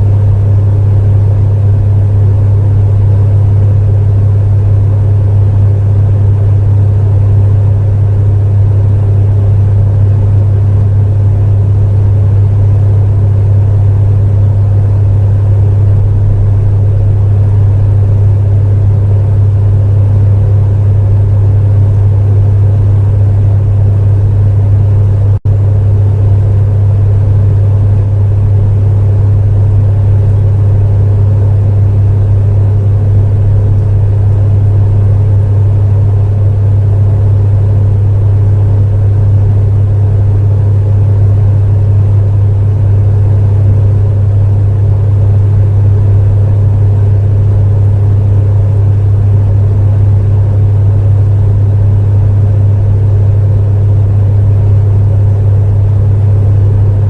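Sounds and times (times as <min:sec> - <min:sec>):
space heater humming with fan noise: 0:00.0 - 0:57.0.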